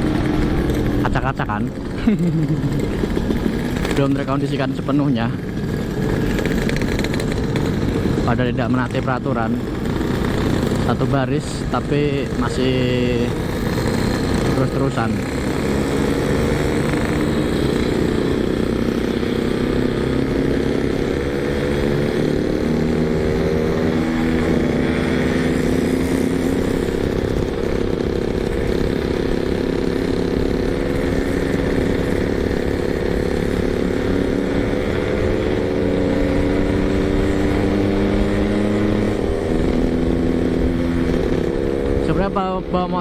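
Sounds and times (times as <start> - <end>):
motorcycle engine running at low revs: 0.0 - 43.0.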